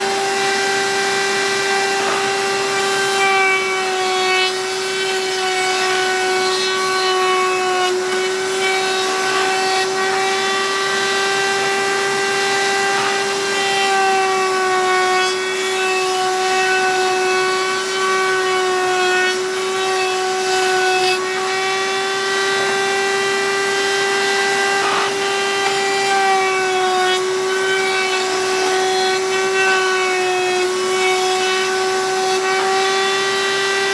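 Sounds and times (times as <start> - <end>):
electric saw whining: 0.0 - 33.9.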